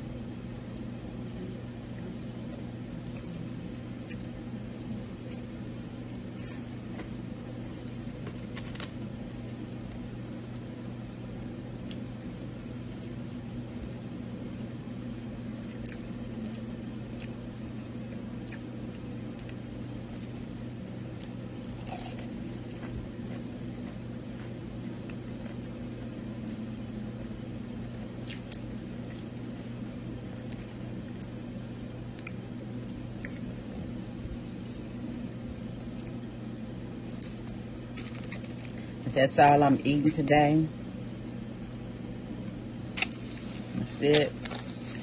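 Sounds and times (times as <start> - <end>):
low hum with pitched drone: 0.0 - 45.0.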